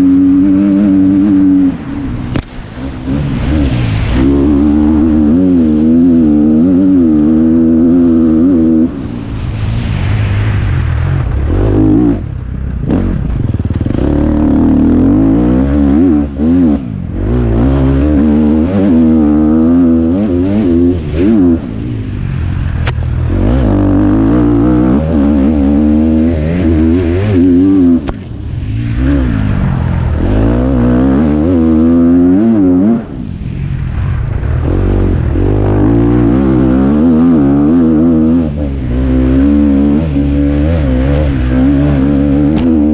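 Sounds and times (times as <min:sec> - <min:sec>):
dirt bike engine revving: 0:00.0 - 0:09.1, 0:11.2 - 0:22.1, 0:23.2 - 0:33.3, 0:34.5 - 0:42.9.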